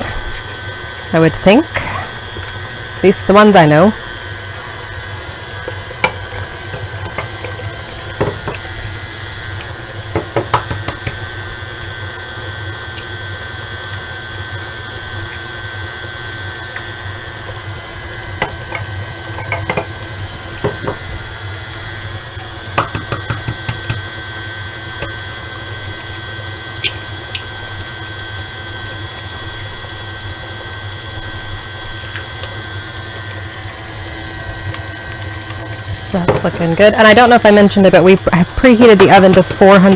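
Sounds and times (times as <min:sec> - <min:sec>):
stand mixer motor whine: 0:00.0 - 0:39.9.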